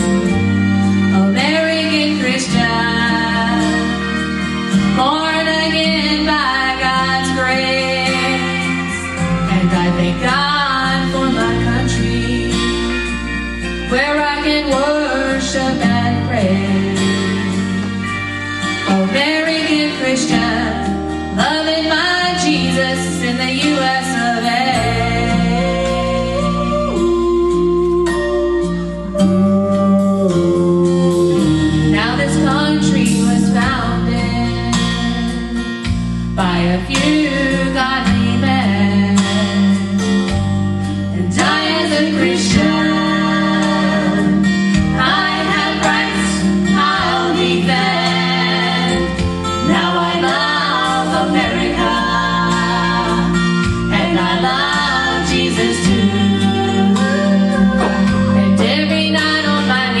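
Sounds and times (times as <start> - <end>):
guitar accompaniment: 0.0 - 60.0
gospel singing: 1.0 - 35.6, 36.4 - 40.4, 41.1 - 60.0
woman singing: 1.1 - 4.2, 4.8 - 13.0, 13.8 - 17.9, 18.8 - 35.5, 36.4 - 40.0, 41.2 - 60.0.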